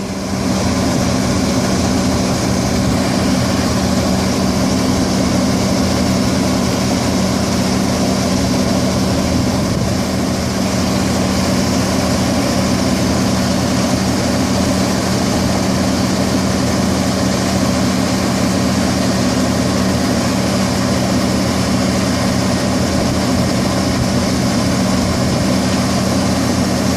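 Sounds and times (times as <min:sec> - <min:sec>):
harvester engine droning: 0:00.0 - 0:26.9.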